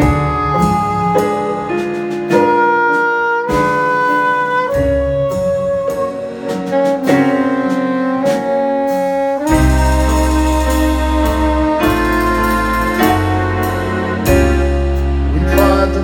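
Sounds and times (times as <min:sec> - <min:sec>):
live band playing slow song: 0:00.0 - 0:16.0
soprano saxophone melody: 0:00.0 - 0:16.0.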